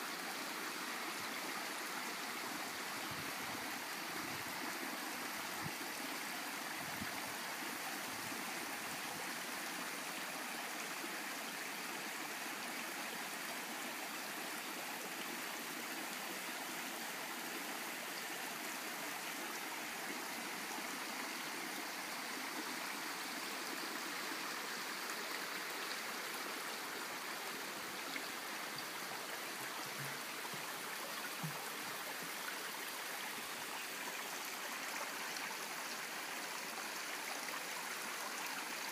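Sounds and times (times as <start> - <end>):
brook water running: 0.0 - 38.9.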